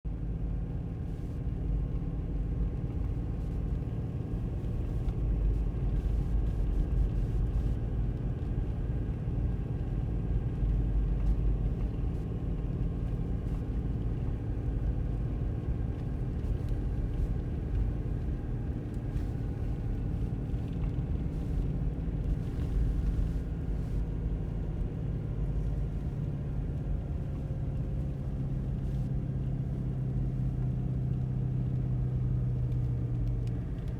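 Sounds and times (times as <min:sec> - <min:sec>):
car engine hum: 0:00.1 - 0:33.9.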